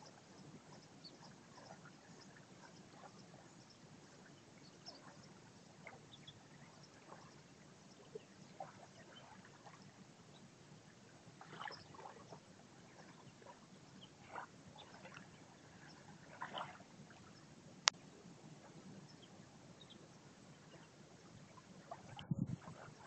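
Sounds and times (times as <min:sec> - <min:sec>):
small waves lapping: 0:00.0 - 0:18.0, 0:18.6 - 0:23.0.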